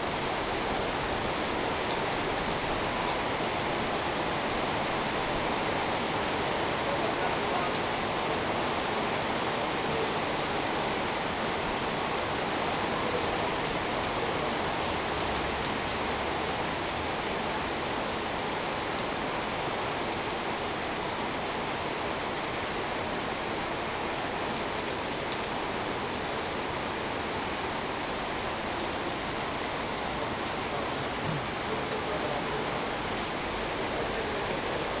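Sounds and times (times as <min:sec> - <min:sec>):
heavy rain hissing: 0:00.0 - 0:35.0.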